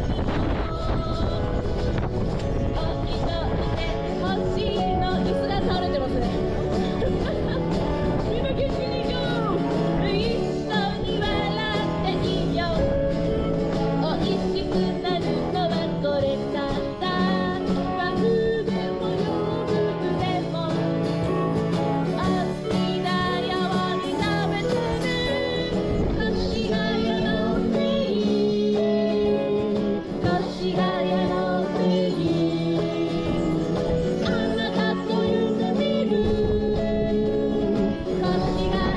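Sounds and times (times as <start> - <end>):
person singing pop song: 0.0 - 1.8, 2.7 - 38.9
acoustic guitar: 0.0 - 38.9.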